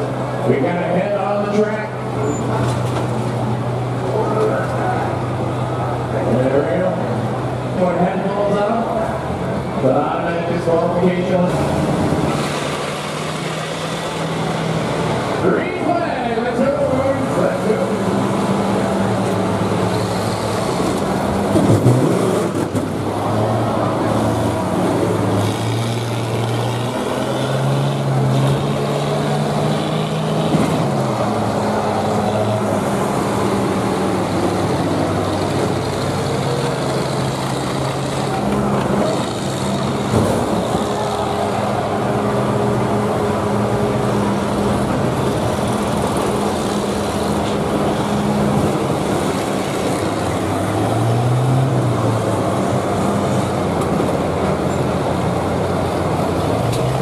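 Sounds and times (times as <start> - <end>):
combine harvester engines revving: 0.0 - 57.0.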